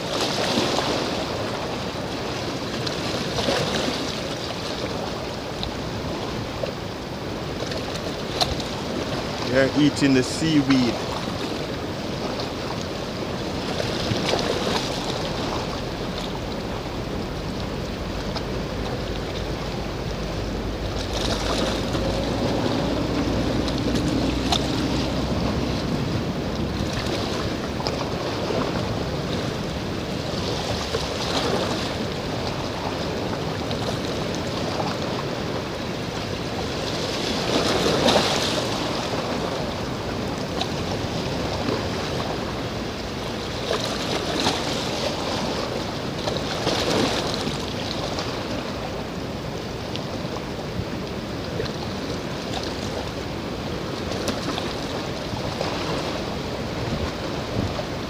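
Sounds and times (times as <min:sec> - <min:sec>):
sea surf: 0:00.0 - 0:58.0
wind: 0:00.0 - 0:58.0.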